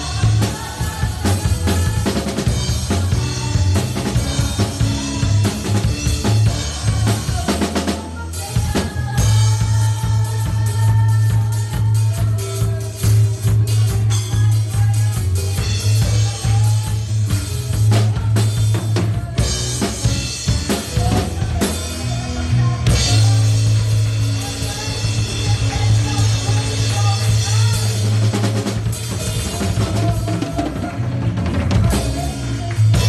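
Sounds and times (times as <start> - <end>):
drum kit playing: 0.0 - 33.0
recorded worship song: 0.0 - 33.0.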